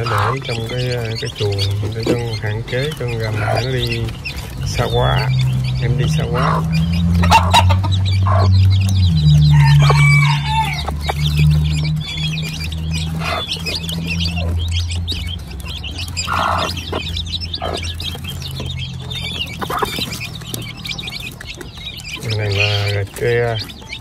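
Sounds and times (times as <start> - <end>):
chicks peeping: 0.0 - 24.0
hen clucking: 0.0 - 24.0.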